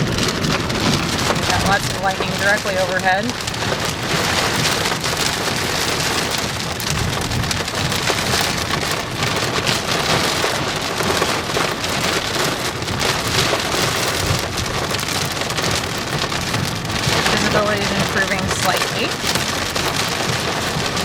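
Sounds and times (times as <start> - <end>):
heavy rain on vehicle roof: 0.0 - 21.0
low road rumble: 0.0 - 21.0.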